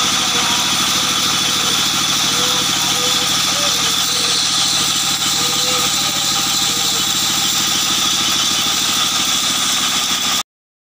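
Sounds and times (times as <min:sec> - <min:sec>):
sawmill machinery throbbing: 0:00.0 - 0:10.4.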